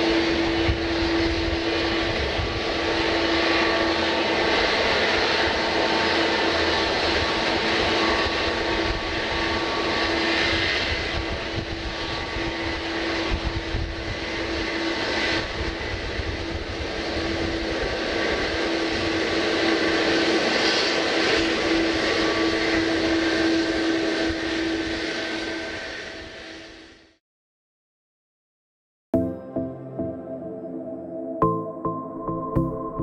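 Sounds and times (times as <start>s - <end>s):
jet engines humming and whining: 0.0s - 27.2s.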